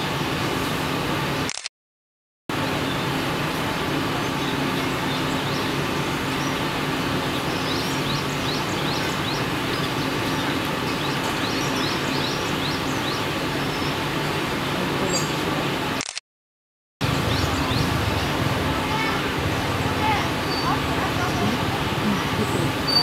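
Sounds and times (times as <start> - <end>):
outdoor background noise: 0.0 - 1.7, 2.5 - 16.2, 17.0 - 23.0.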